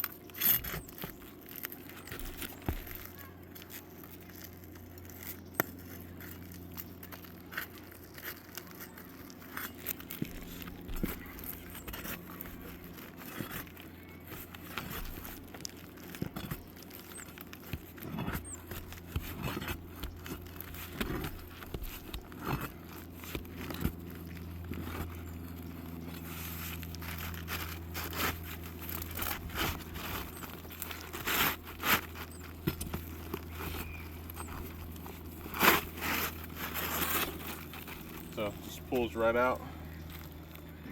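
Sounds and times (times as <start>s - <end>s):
roof shingle scraping and clicking: 0.0s - 40.9s
steady low hum: 0.0s - 40.9s.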